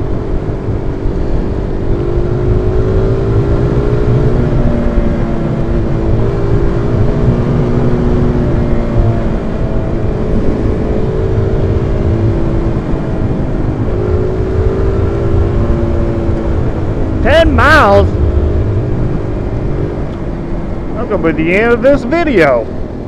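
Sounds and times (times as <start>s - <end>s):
motorcycle engine cruising: 0.0s - 23.0s
wind rumble on microphone: 0.0s - 23.0s.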